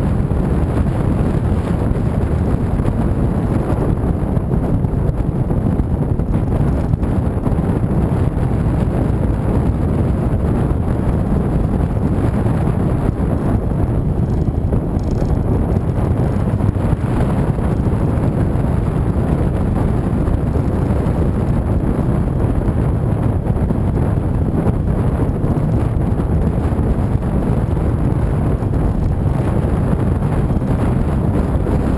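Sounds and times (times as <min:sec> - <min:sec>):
motorcycle engine cruising: 0:00.0 - 0:31.9
wind buffeting microphone: 0:00.0 - 0:31.9.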